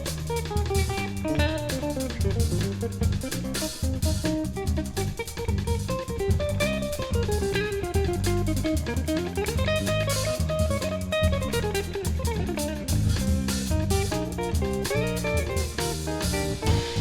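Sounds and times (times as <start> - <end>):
bass and drum groove: 0.0 - 17.0.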